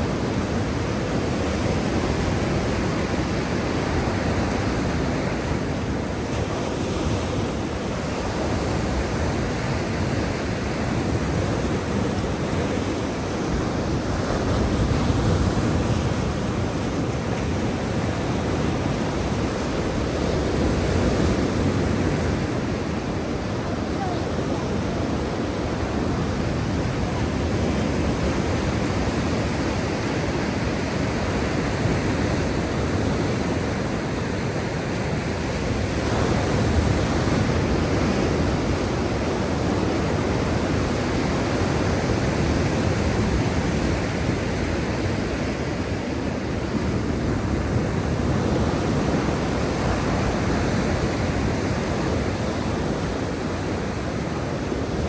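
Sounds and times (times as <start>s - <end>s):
surf waves washing in: 0.0s - 55.0s.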